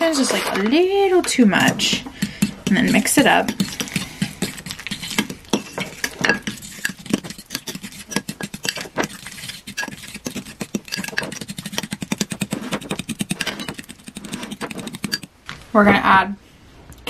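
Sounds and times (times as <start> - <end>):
utensil tapping and scraping bowl: 0.1 - 15.3
utensil stirring in a bowl: 1.3 - 15.4.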